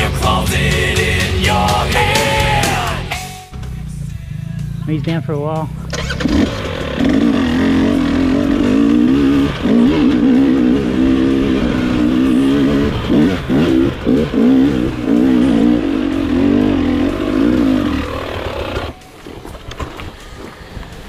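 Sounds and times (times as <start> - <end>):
dirt bike engine revving: 0.0 - 20.7.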